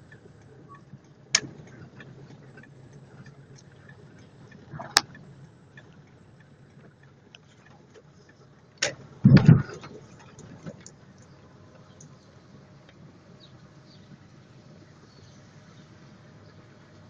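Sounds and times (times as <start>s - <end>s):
car engine hum: 0.0s - 17.0s
raindrops ticking on windshield: 0.0s - 17.0s.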